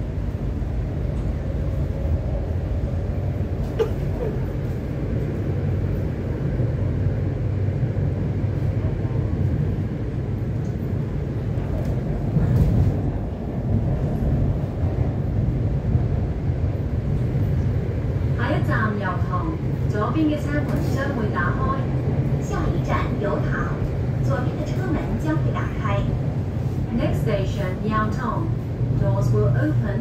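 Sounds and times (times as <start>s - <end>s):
train cabin rumble: 0.0s - 30.0s.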